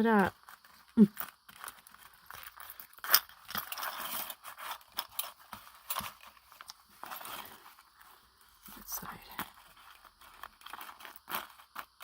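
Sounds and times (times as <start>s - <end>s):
paper rustling: 0.4s - 12.0s.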